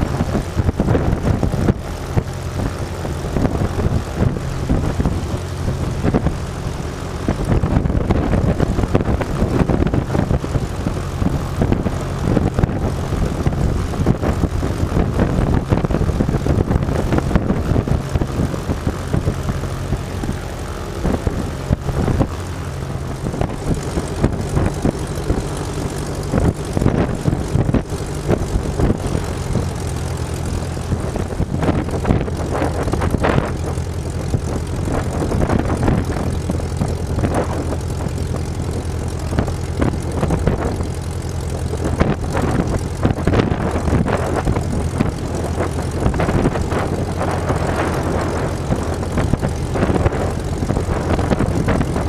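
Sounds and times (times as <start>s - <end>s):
propeller airplane engine droning: 0.0s - 52.0s.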